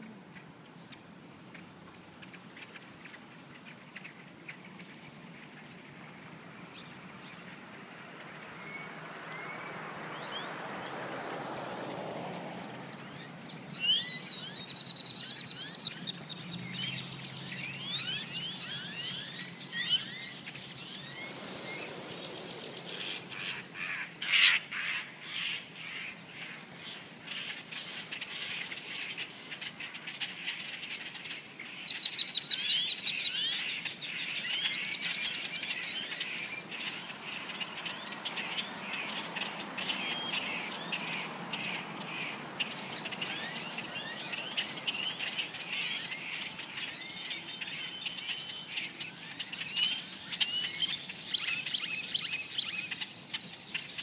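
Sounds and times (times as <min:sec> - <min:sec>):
flock of small birds chirping: 0:00.0 - 0:54.0.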